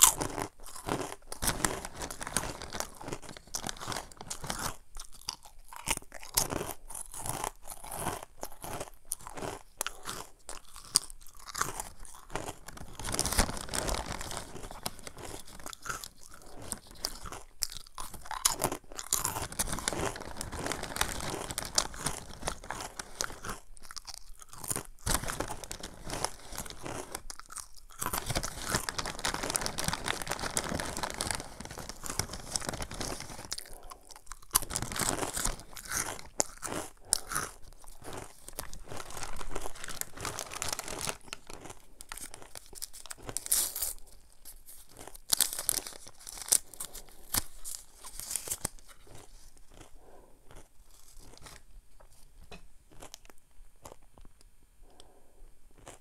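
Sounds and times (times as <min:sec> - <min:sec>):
crunching and chewing snack: 0:00.0 - 0:56.0.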